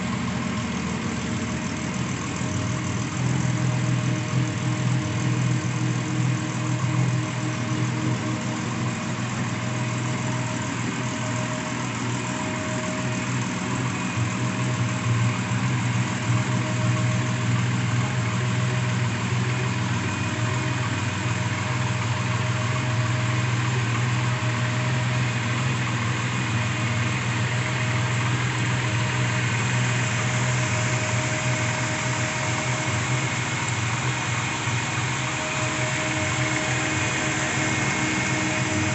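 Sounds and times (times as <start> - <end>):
pickup truck engine idling: 0.0 - 38.9.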